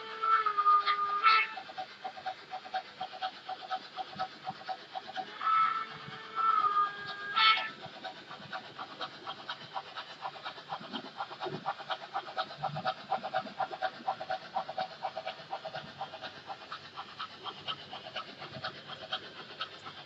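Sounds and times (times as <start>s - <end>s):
model train ticking on track: 0.0s - 20.0s.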